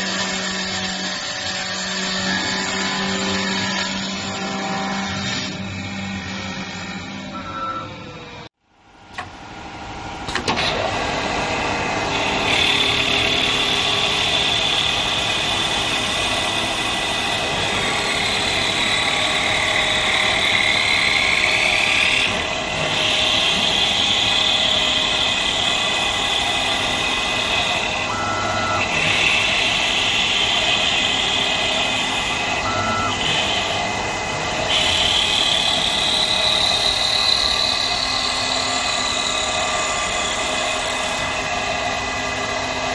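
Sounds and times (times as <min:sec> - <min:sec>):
wood lathe cutting whine: 0:00.0 - 0:07.4, 0:10.7 - 0:42.9.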